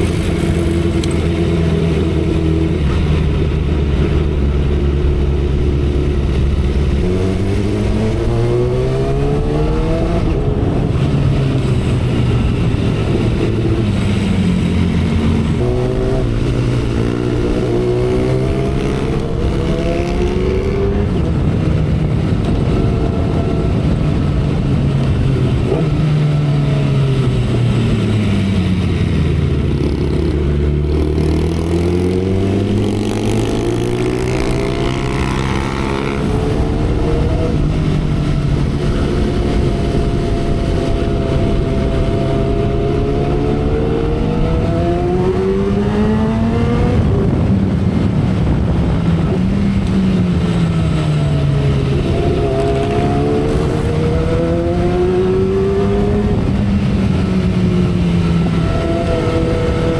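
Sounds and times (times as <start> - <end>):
motorcycle engine under way: 0.0 - 59.9
wind rush: 0.0 - 59.9.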